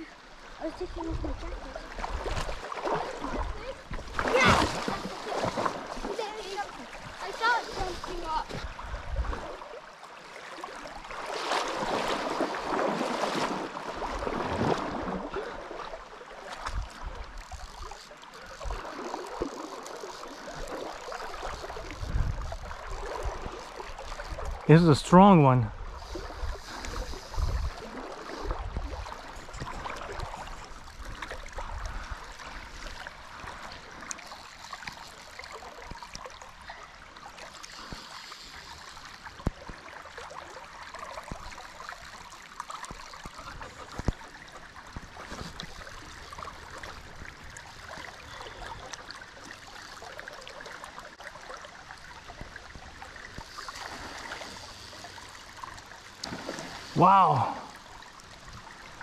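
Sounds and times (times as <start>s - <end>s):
shallow river flowing: 0.0s - 59.0s.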